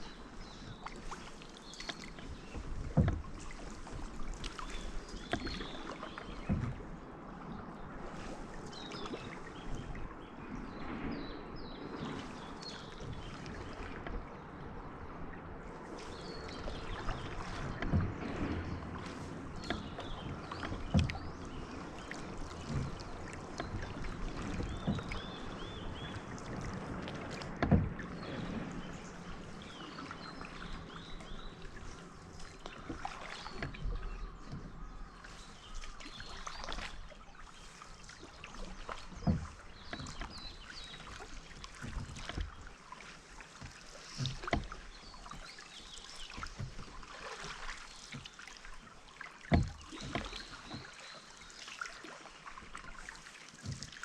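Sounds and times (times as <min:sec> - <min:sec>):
paddle strokes in water: 0:00.0 - 0:54.0.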